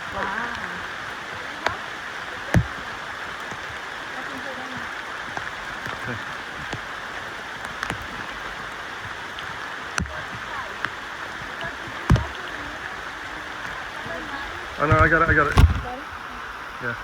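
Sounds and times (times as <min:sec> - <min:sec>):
rainforest ambience hiss: 0:00.0 - 0:17.0.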